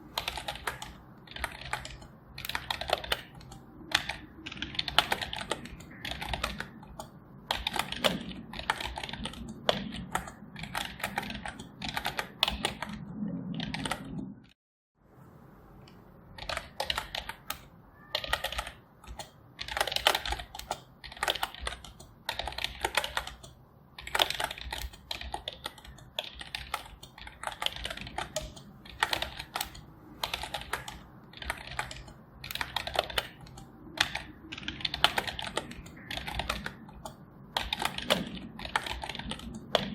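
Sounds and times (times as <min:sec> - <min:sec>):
keyboard key clicks: 0:00.2 - 0:13.0, 0:15.9 - 0:39.9.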